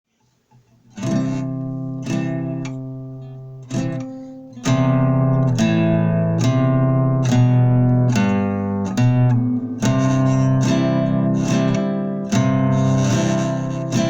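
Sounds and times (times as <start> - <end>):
acoustic guitar chords: 0.9 - 14.0.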